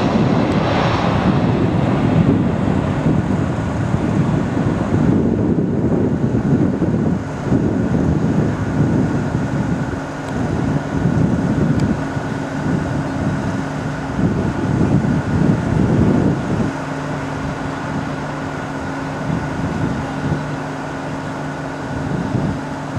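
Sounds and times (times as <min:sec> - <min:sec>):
jet engine whine and rumble: 0:00.0 - 0:22.9
wind buffeting microphone: 0:00.0 - 0:22.9.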